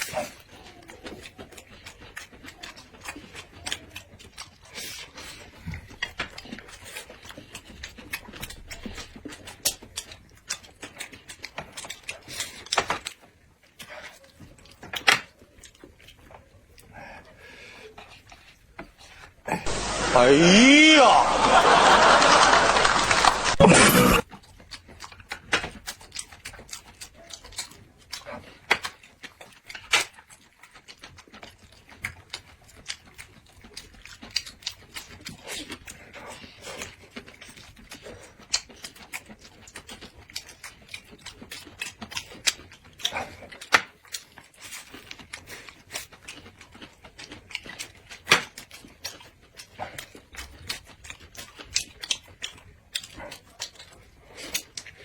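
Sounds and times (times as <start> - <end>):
chewing and mouth smacking: 0.0 - 20.0, 22.9 - 55.0
food crunching: 0.0 - 55.0.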